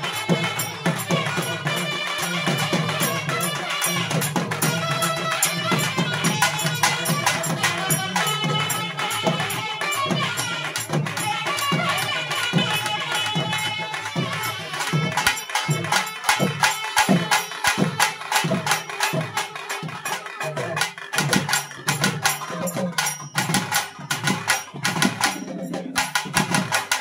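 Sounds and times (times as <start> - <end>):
barrel drums beaten fast: 0.0 - 27.0.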